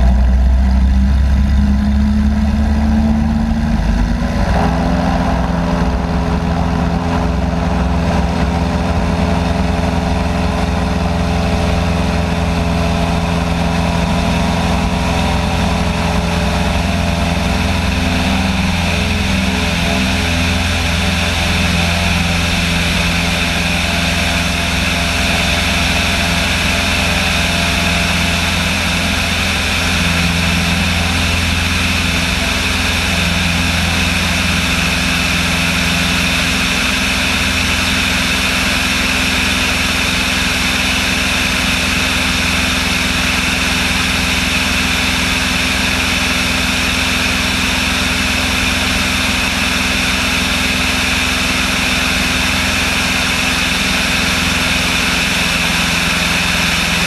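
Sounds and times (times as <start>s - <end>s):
propeller aircraft engine drone: 0.0s - 57.0s.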